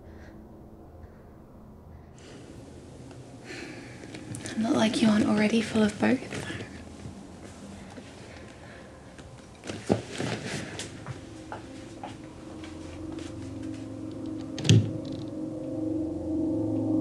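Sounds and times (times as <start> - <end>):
low droning music tone: 0.0 - 17.0.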